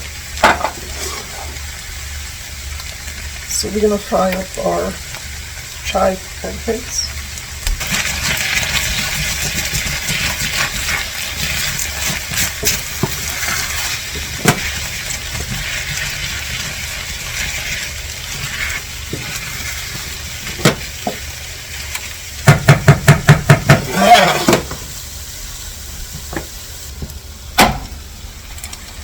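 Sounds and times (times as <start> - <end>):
batter sizzling in a pan: 0.0 - 29.0.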